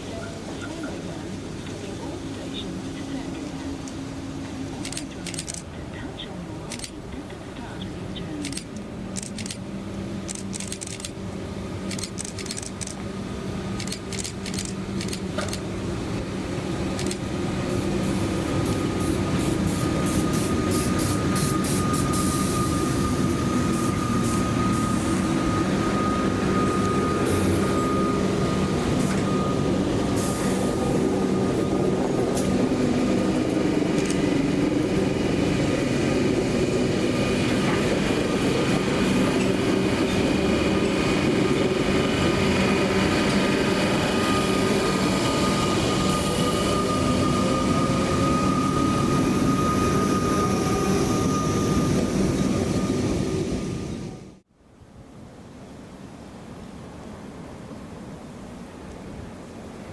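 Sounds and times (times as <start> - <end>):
train running past: 0.0 - 54.5.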